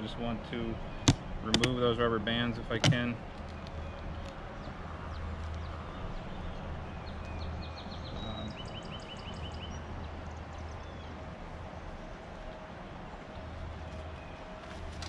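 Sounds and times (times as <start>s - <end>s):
songbirds trilling: 0.0s - 15.0s.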